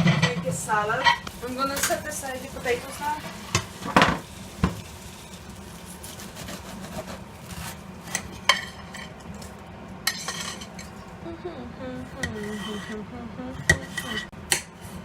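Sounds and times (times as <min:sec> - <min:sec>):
utensil scraping a skillet: 0:00.0 - 0:11.2, 0:12.2 - 0:13.0, 0:13.6 - 0:15.0.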